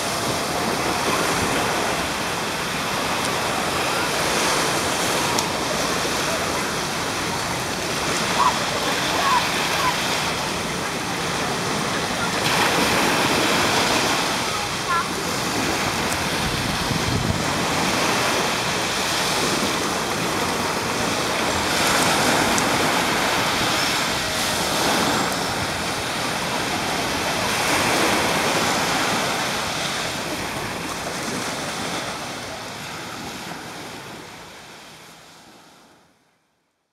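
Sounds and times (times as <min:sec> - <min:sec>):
waves washing up a beach: 0:00.0 - 0:36.5.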